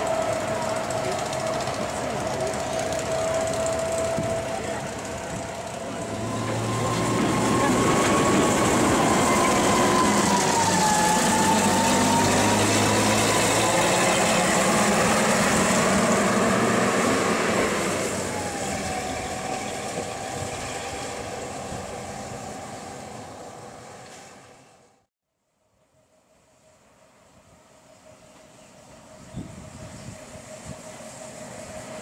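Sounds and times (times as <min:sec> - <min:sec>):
diesel locomotive engine running: 0:00.0 - 0:25.0, 0:26.3 - 0:32.0
wavering engine whine: 0:00.0 - 0:25.0, 0:26.2 - 0:32.0.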